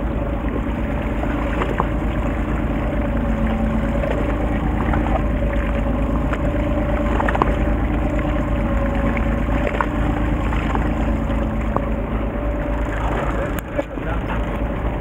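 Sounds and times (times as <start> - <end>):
boat engine rumbling: 0.0 - 15.0
water noise: 0.0 - 15.0.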